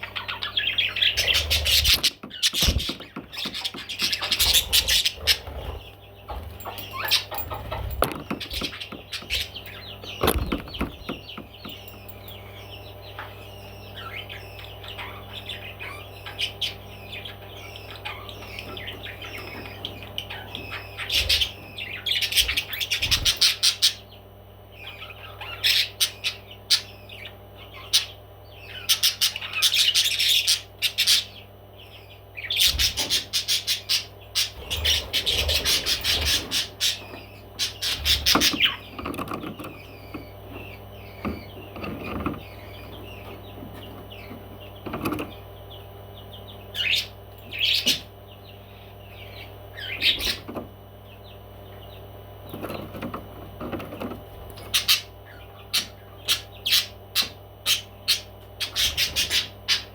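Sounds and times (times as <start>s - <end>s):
parrots chirping: 0.0s - 24.2s, 24.8s - 50.5s, 54.5s - 59.9s.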